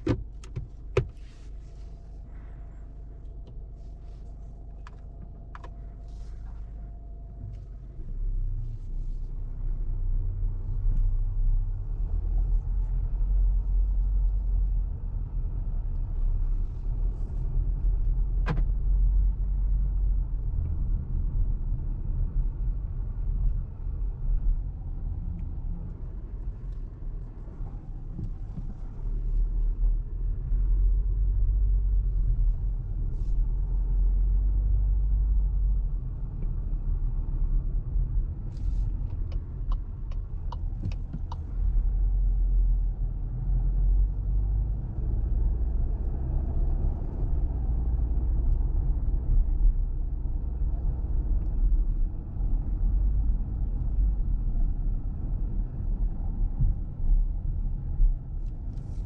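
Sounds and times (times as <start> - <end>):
car cabin rumble: 0.0 - 59.0.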